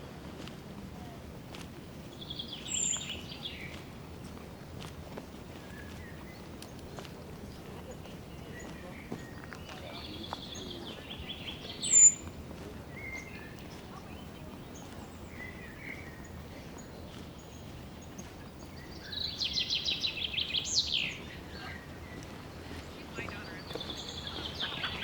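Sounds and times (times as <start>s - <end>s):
faint background noise: 0.0s - 25.0s
songbird calling: 1.8s - 25.0s
songbird trill: 1.8s - 25.0s.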